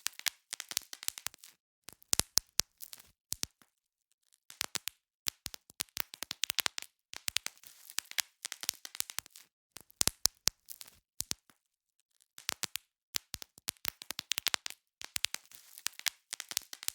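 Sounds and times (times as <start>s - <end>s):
bubble wrap popping: 0.0s - 3.6s, 4.5s - 11.6s, 12.4s - 16.9s.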